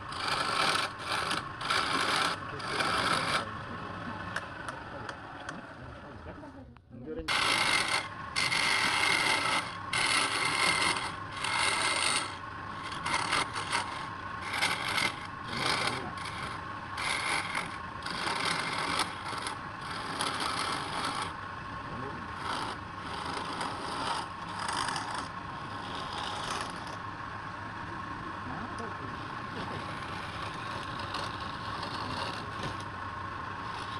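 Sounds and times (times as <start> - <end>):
turning tool scraping wood: 0.0 - 3.6, 7.3 - 27.1, 29.2 - 33.9
lathe whine: 0.0 - 6.5, 7.2 - 33.9.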